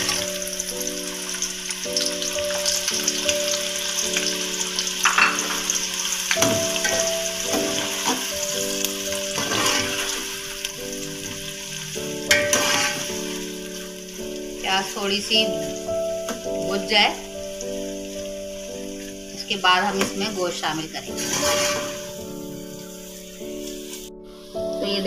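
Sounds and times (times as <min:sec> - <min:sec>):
background music of held notes: 0:00.0 - 0:25.0
onions sizzling in oil: 0:00.0 - 0:25.0.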